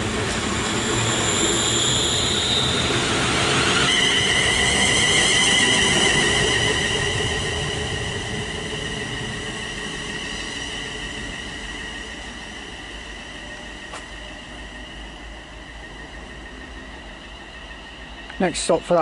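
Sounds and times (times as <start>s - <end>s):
electric train traction whine: 0.0s - 19.0s
train rumble: 0.0s - 19.0s.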